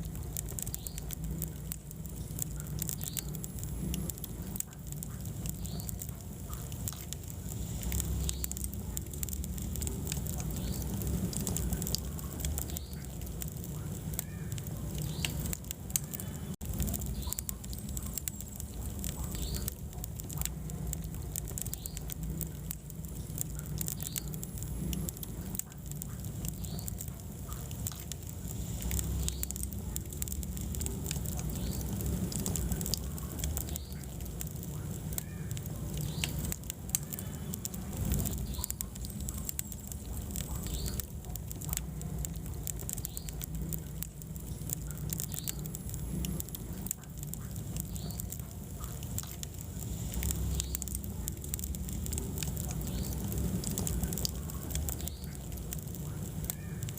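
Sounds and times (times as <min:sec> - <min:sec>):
fire crackling and popping: 0:00.0 - 0:56.9
low rumble of flames: 0:00.0 - 0:56.9.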